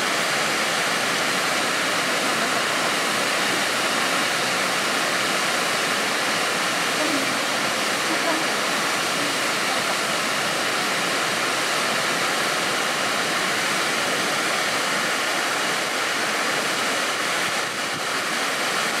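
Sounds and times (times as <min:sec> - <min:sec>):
waterfall crashing into pool: 0:00.0 - 0:19.0.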